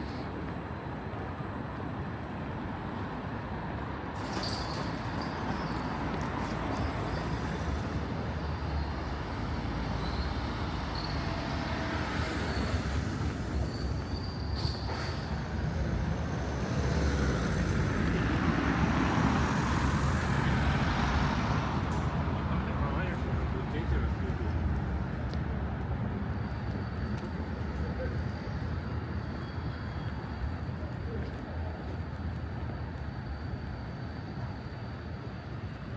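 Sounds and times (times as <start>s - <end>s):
road traffic rumble: 4.2s - 35.9s.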